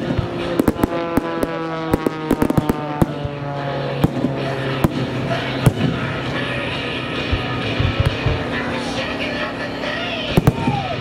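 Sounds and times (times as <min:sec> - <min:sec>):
fireworks bangs and crackles: 0:00.0 - 0:11.0
music with sustained tones: 0:00.0 - 0:11.0.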